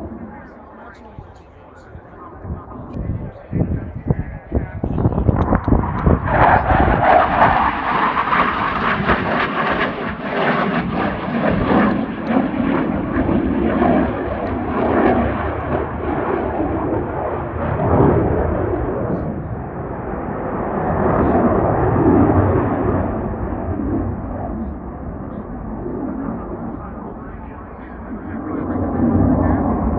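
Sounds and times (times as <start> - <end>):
jet engines roaring in flight: 0.0 - 29.9.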